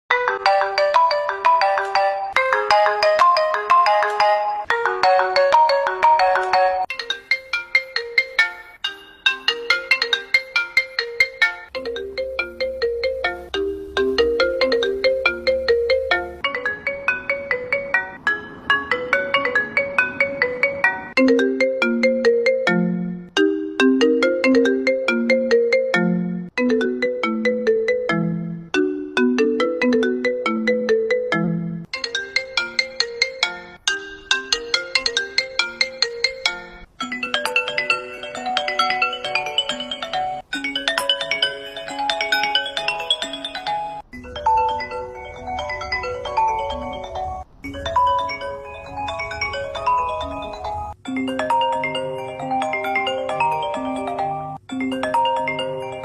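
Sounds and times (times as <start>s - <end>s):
phone ringtone melodies: 0.1s - 56.0s.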